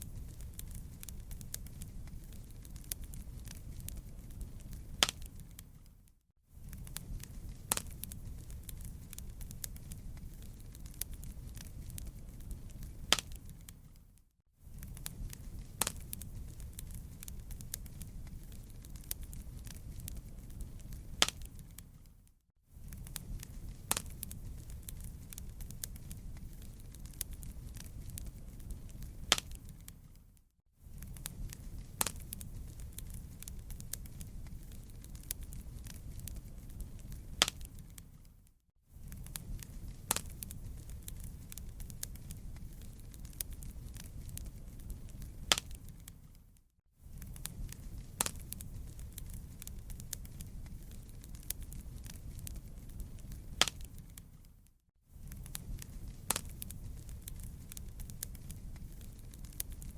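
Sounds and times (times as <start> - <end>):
low rumble of burning: 0.0 - 59.9
wood fire crackling: 0.0 - 59.9.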